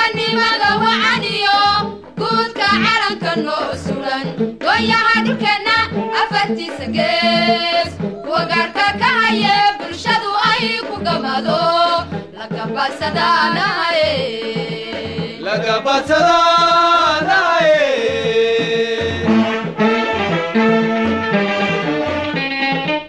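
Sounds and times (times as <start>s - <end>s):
steady drum beat: 0.0s - 23.0s.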